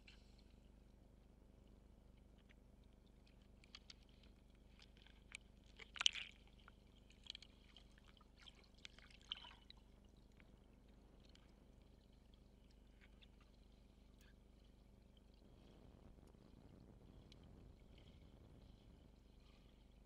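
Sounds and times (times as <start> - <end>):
underwater clicks and crackles: 2.1 - 20.0.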